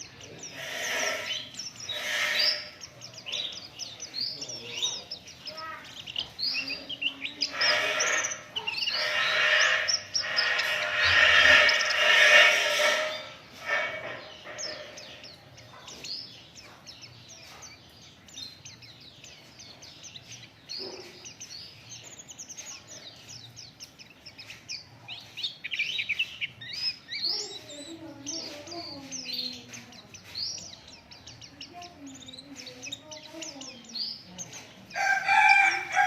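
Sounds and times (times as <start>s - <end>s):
bird chirping and trilling: 0.0s - 36.0s.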